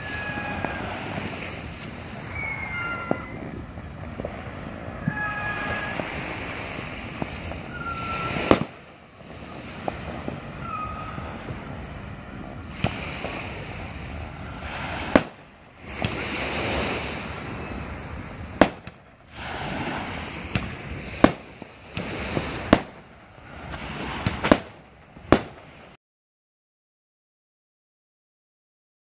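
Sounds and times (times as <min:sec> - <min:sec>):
fireworks bangs: 0:00.0 - 0:26.0
fireworks crackling and hissing: 0:00.0 - 0:26.0.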